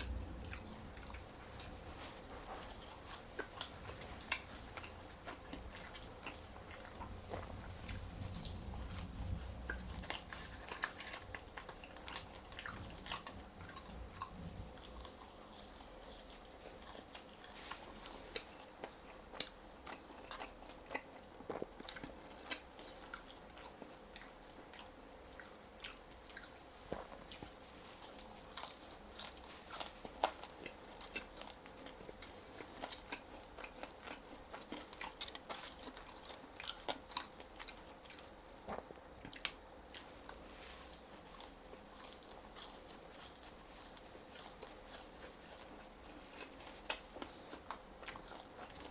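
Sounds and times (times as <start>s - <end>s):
person chewing crispy fries: 0.0s - 48.9s.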